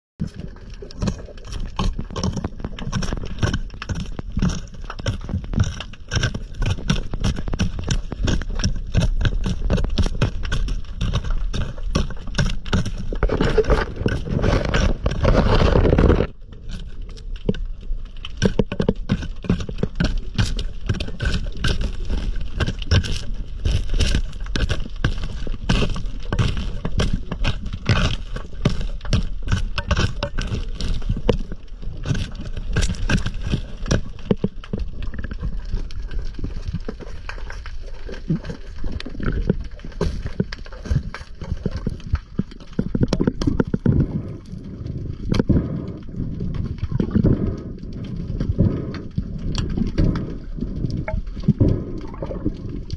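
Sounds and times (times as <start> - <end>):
underwater clicking and scraping: 0.2 - 52.9.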